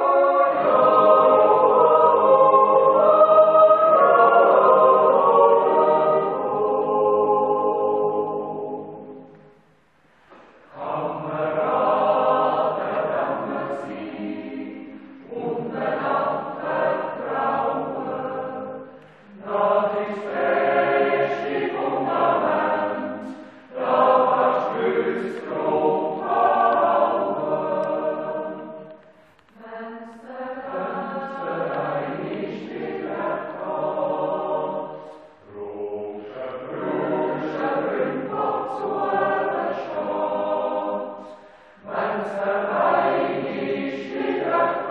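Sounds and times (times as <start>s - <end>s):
yodel choir singing unaccompanied: 0.0s - 44.9s.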